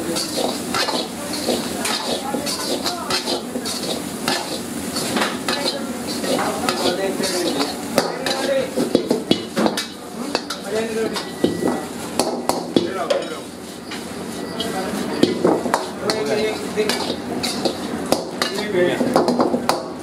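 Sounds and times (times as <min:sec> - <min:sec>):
ladle scraping wok: 0:00.0 - 0:20.0
rice sizzling in a wok: 0:00.0 - 0:20.0.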